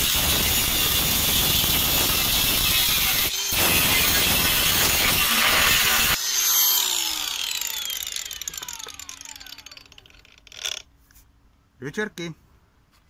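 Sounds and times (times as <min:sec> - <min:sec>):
angle grinder cutting steel: 0:00.0 - 0:10.8
grinder disc spinning down: 0:00.0 - 0:10.8.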